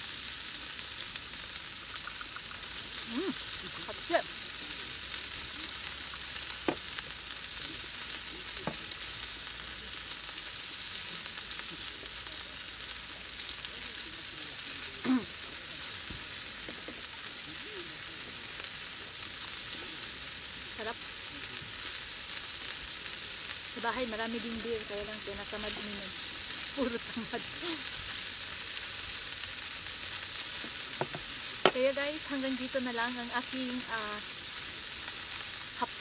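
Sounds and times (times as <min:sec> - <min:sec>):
meat sizzling in a pan: 0:00.0 - 0:36.0.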